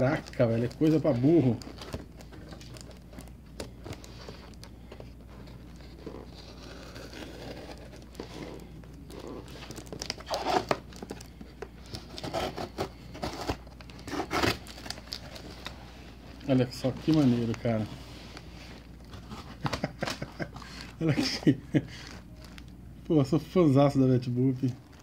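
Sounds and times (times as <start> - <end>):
plastic film crinkling and tearing: 0.0 - 22.8, 24.2 - 25.0.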